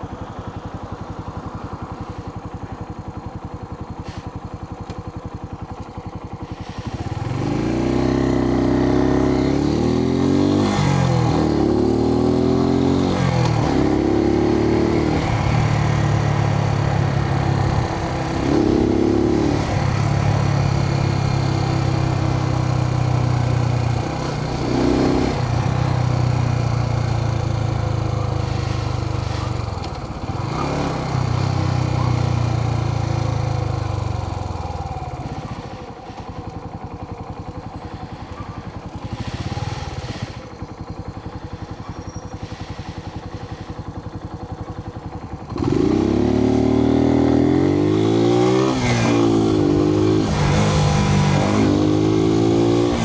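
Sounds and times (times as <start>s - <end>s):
motorcycle engine revving: 2.1s - 53.0s.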